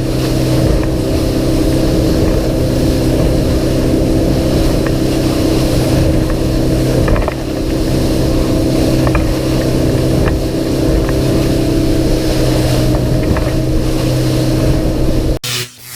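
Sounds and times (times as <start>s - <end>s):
outboard engine running: 0.0s - 15.4s
wind and water rushing: 0.0s - 15.4s.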